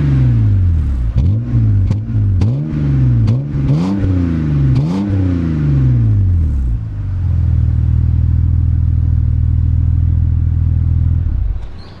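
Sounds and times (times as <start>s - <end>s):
car engine revving and idling: 0.0s - 11.7s.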